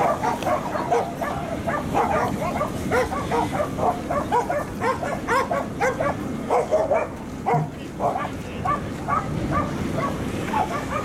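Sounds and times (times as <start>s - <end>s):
dogs barking in high yaps: 0.0s - 11.0s.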